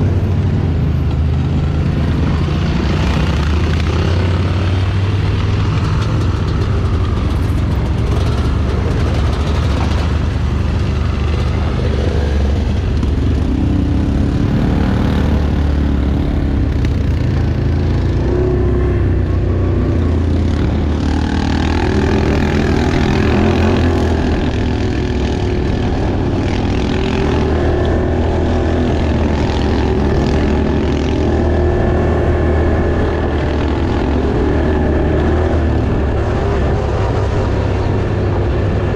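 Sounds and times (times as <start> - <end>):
off-road vehicle engine droning: 0.0 - 38.9.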